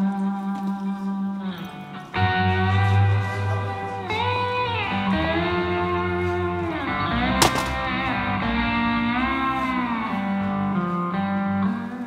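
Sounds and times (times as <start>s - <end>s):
guitar with sliding notes: 1.4s - 12.0s.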